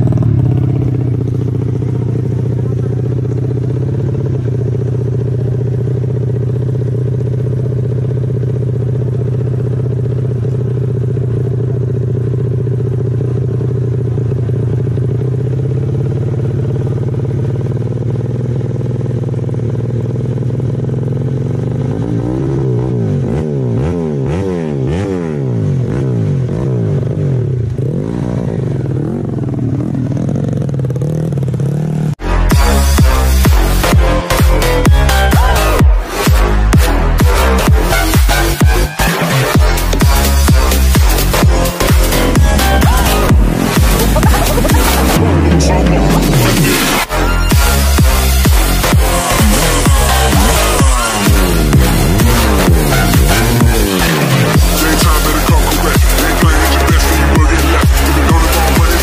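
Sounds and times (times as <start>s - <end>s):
dirt bike engine idling and revving: 0.0s - 59.0s.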